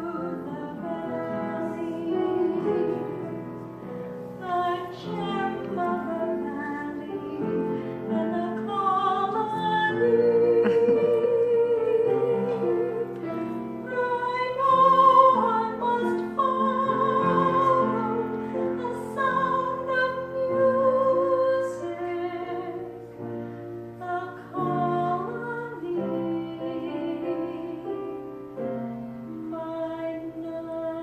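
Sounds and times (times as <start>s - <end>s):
piano accompaniment: 0.0s - 31.0s.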